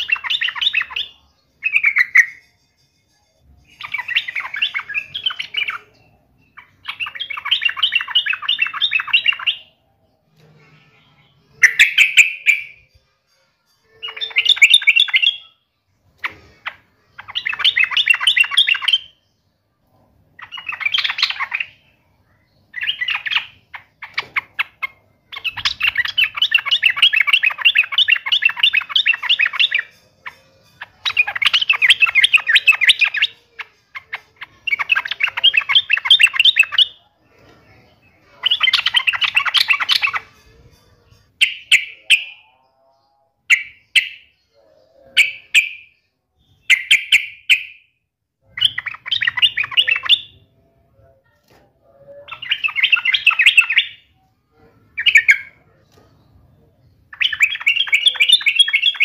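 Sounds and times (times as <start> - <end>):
bulbul singing: 0.0 - 59.0.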